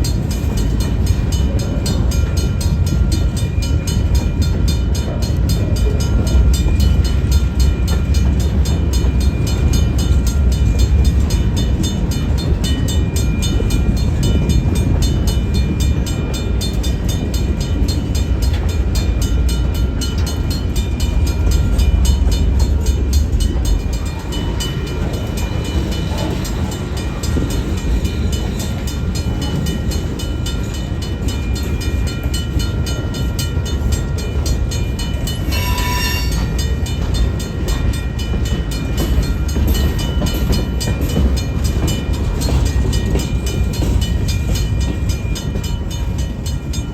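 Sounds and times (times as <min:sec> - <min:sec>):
freight train rolling past: 0:00.0 - 0:46.9.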